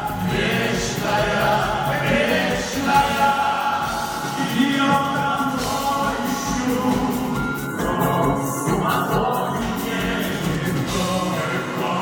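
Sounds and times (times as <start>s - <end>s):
song with singing voices: 0.0s - 12.0s.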